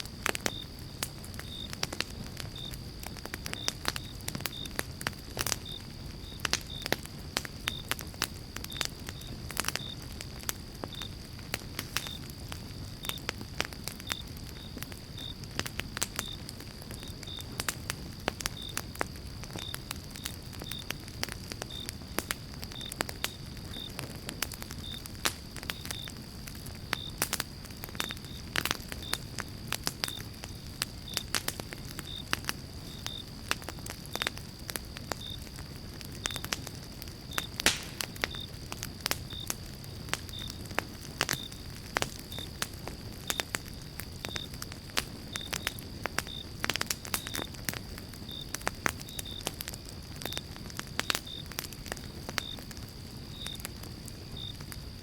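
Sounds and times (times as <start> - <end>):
campfire crackling and popping: 0.0 - 55.0
low rumble of flame: 0.0 - 55.0.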